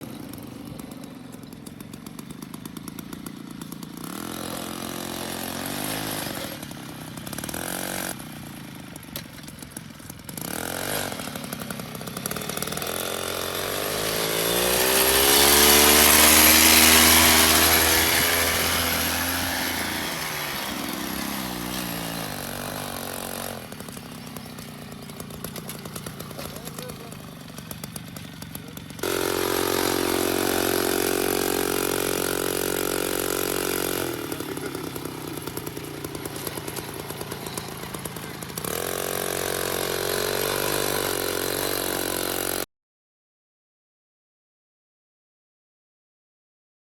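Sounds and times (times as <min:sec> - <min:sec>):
small tractor engine running: 0:00.0 - 0:42.7.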